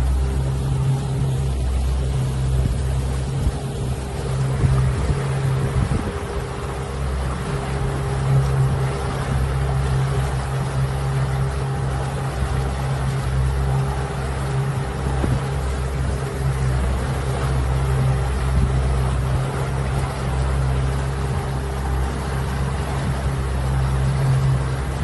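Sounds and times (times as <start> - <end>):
outboard motor humming: 0.0 - 25.0
water rushing in wake: 0.0 - 25.0.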